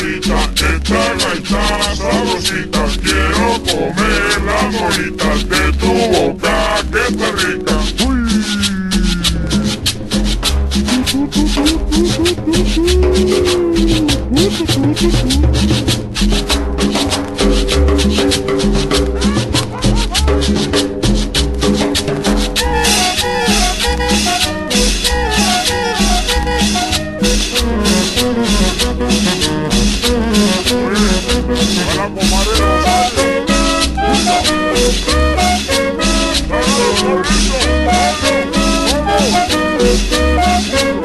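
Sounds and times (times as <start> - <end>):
latin dance music: 0.0 - 41.0.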